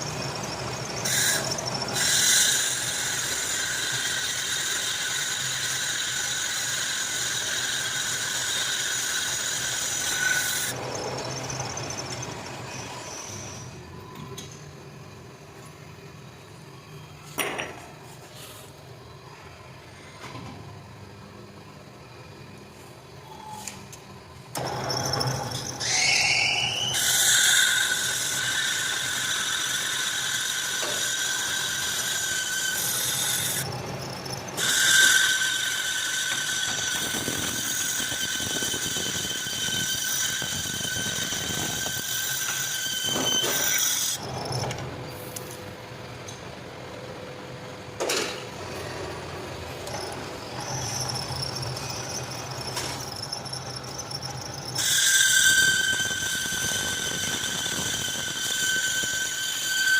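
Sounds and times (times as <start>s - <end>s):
metal machining squeal: 0.0s - 20.5s, 21.8s - 47.2s, 48.1s - 59.9s.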